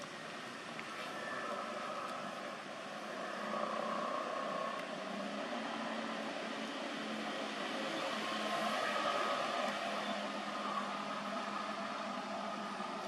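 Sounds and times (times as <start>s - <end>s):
faint hum: 0.0s - 13.0s
steady whirring: 0.0s - 13.0s.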